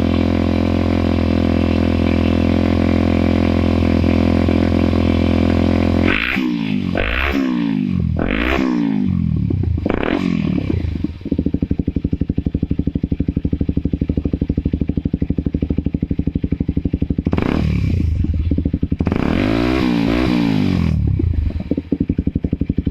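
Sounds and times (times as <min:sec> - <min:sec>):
motorcycle engine revving and idling: 0:00.0 - 0:22.9.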